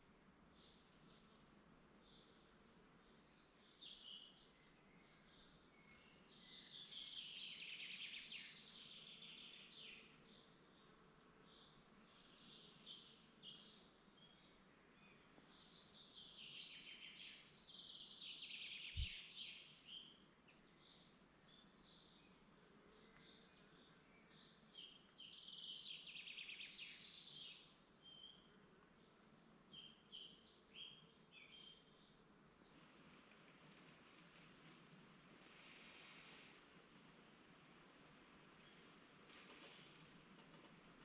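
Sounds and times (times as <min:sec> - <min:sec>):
songbird rapid song: 0:00.0 - 0:41.0.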